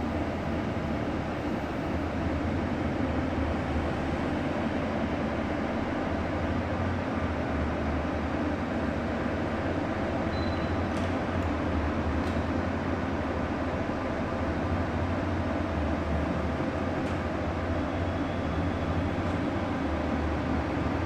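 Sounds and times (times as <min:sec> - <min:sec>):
bus engine rumble and road noise: 0:00.0 - 0:21.0.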